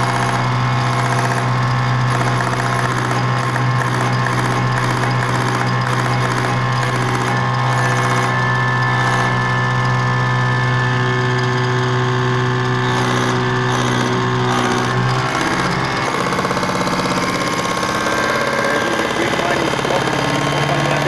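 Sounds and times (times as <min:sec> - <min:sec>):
fuel pump mechanical hum: 0:00.0 - 0:21.0.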